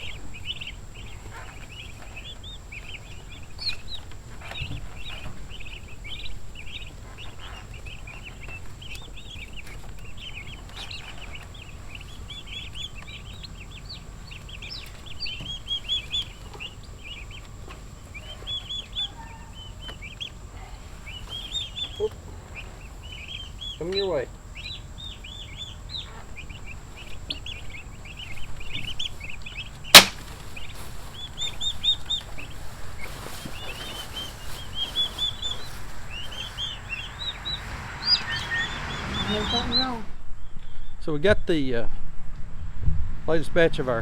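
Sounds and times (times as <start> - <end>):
chicks peeping: 0.0 - 40.7.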